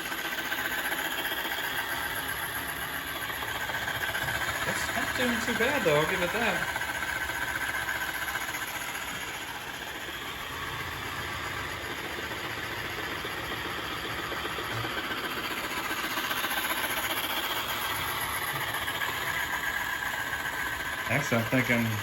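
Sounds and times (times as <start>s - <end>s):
mop vibrating buzz: 0.0s - 22.0s
robot vacuum motor hum: 0.0s - 22.0s.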